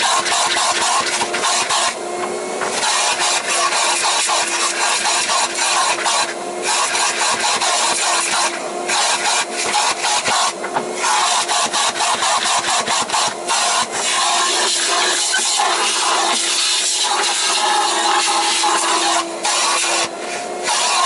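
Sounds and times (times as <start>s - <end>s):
rubbing and scrubbing strokes: 0.0s - 21.0s.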